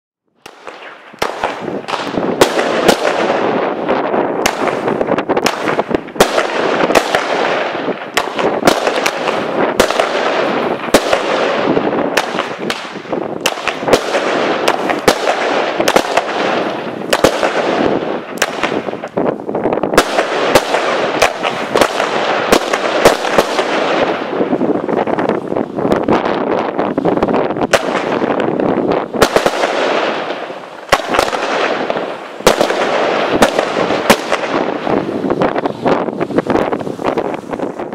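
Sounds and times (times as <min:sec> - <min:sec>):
firework bangs: 0:00.3 - 0:37.9
hissing crackle: 0:00.4 - 0:37.9.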